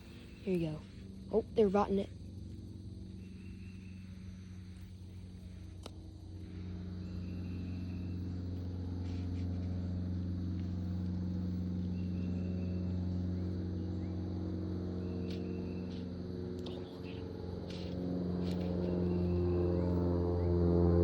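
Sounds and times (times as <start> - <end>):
steady engine hum: 0.0 - 21.0.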